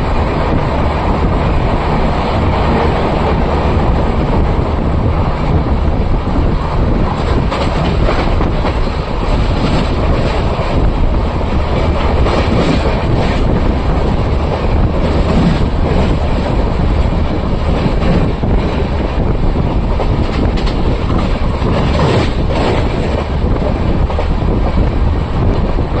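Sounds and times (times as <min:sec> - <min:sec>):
train wheels rumbling on rails: 0:00.0 - 0:26.0
wind noise: 0:00.0 - 0:26.0.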